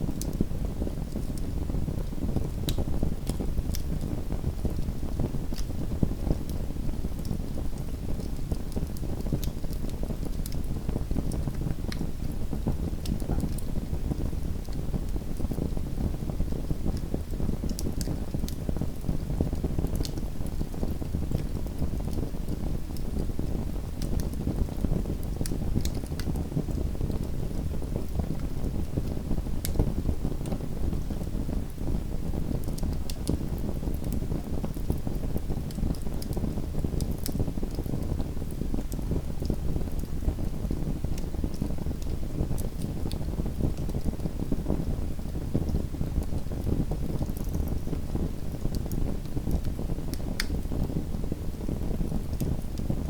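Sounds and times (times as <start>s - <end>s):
low rumble of flames: 0.0s - 53.0s
wood fire crackling and popping: 0.1s - 53.0s.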